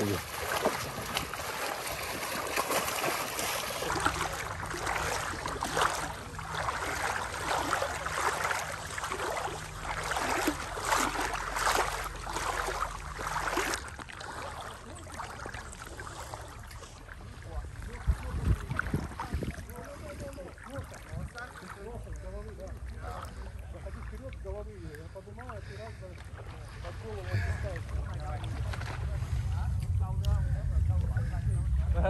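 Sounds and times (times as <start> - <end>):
river water splashing: 0.0 - 31.9
low steady hum: 0.0 - 32.0.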